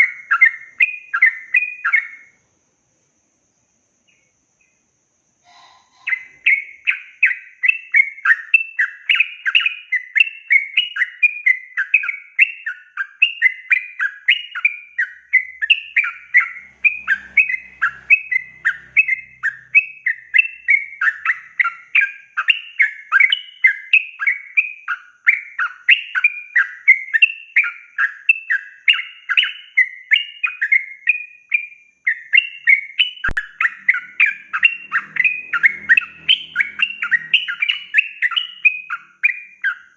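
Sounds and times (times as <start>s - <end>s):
bird singing warbling phrases: 0.0s - 2.4s, 5.4s - 39.9s.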